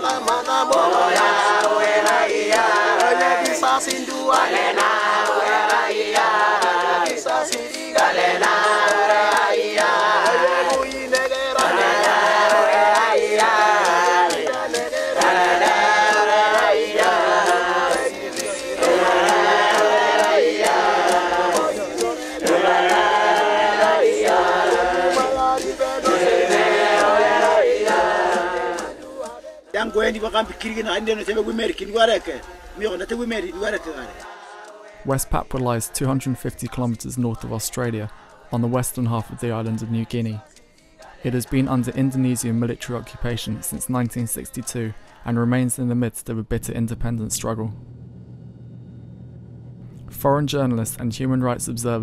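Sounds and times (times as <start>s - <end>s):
men chanting together: 0.0s - 45.3s.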